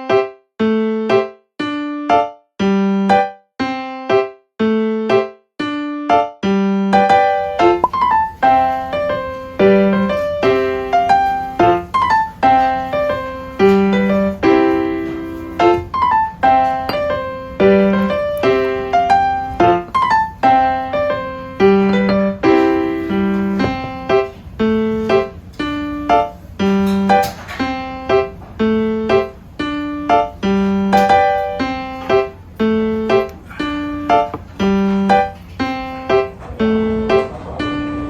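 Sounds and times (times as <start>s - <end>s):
light piano music: 0.0s - 38.0s.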